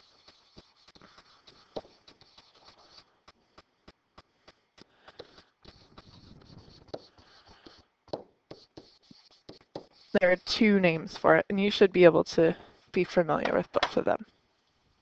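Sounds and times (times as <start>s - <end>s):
stylus scratching on surface: 0.0s - 15.0s.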